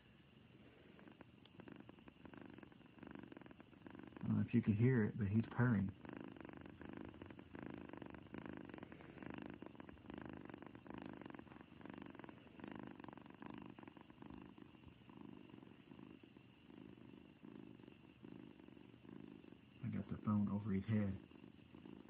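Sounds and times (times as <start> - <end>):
cat purring softly: 0.0 - 22.0.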